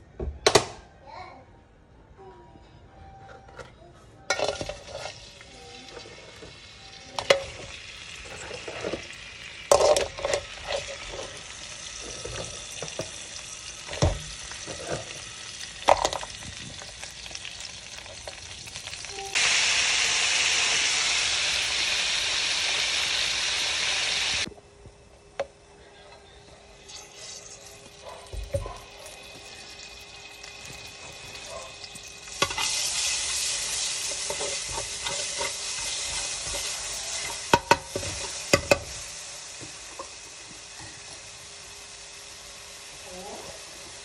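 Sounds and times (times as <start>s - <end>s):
crabs sizzling in hot oil: 4.3s - 24.5s, 26.5s - 44.0s.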